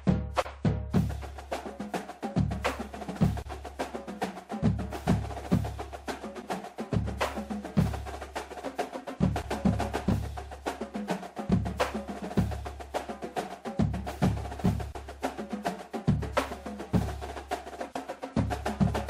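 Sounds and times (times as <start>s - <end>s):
rapid sharp clicking percussion: 0.0s - 19.0s.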